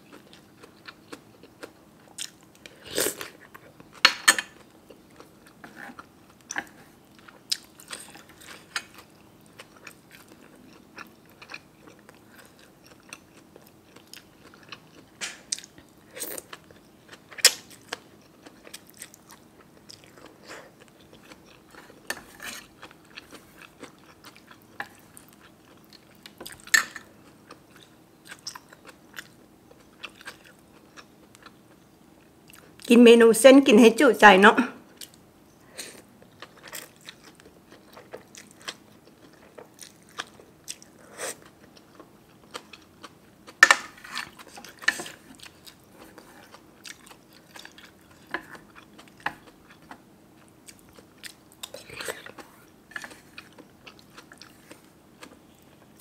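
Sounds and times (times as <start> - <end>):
chewing and crunching food: 0.0 - 32.9, 34.9 - 56.0.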